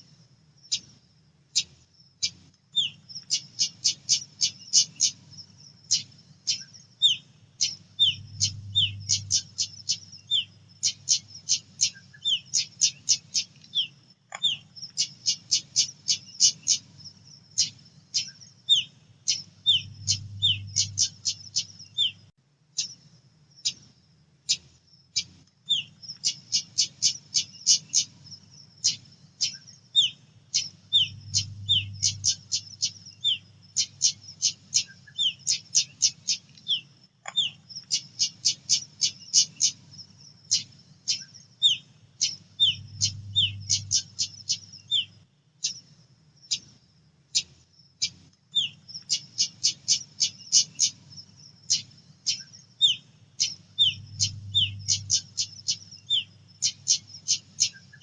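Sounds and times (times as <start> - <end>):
faint low hum: 0.0 - 58.0
bird ticking and whistling calls: 0.6 - 23.9, 24.5 - 58.0.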